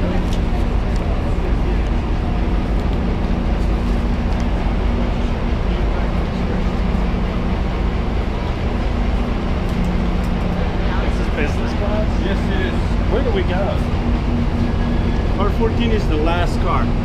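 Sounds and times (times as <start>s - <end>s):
diesel train idling: 0.0s - 17.0s.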